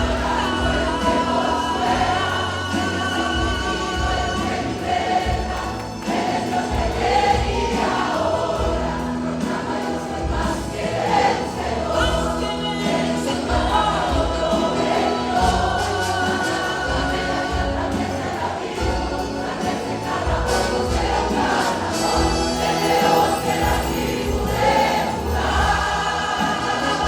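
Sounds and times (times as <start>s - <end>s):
choir singing: 0.0s - 27.0s
instrumental accompaniment with bass: 0.0s - 27.0s.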